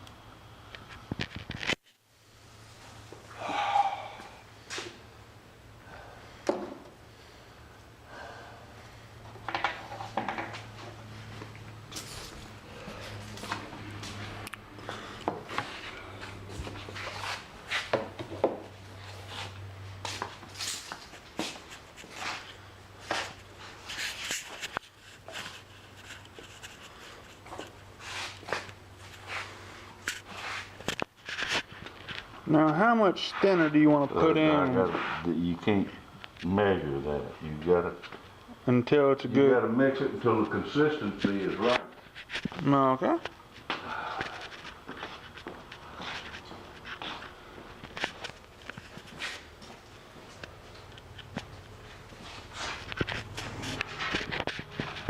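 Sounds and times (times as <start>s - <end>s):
steady low hum: 2.0s - 55.0s.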